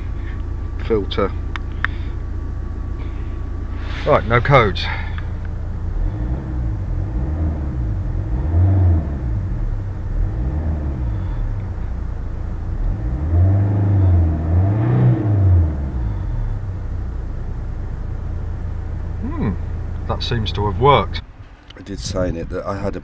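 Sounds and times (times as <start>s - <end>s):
diesel car engine accelerating: 0.0s - 21.8s
road noise rumble: 0.0s - 23.0s.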